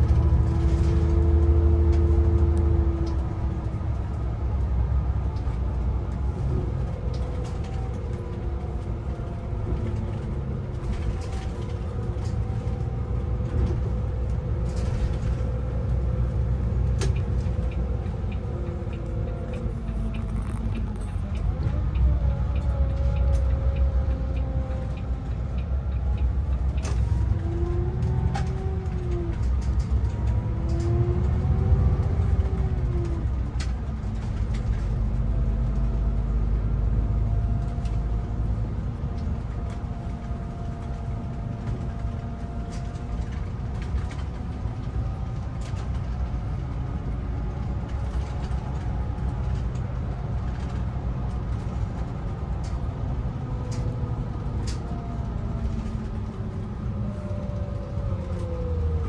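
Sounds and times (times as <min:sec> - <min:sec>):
bus rumble: 0:00.0 - 0:59.0.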